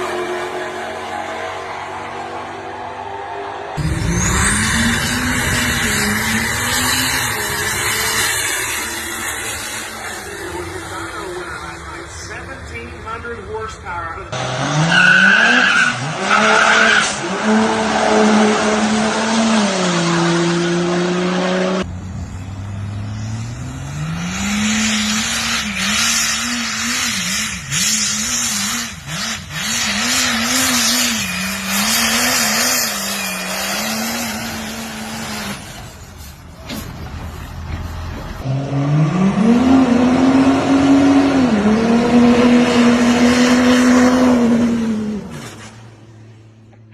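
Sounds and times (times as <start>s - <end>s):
truck engine at full throttle: 0.0s - 46.9s.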